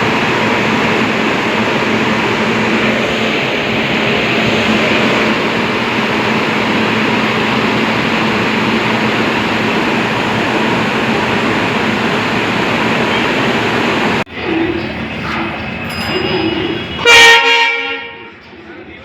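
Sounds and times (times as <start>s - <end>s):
locomotive humming: 0.0s - 19.0s.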